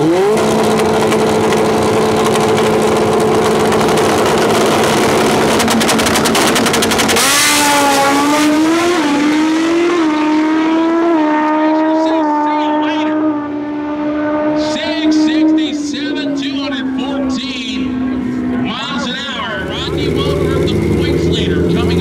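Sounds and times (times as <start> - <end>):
engine crackling: 0.0 - 10.9, 14.6 - 22.0
motorcycle engines revving high: 0.0 - 22.0.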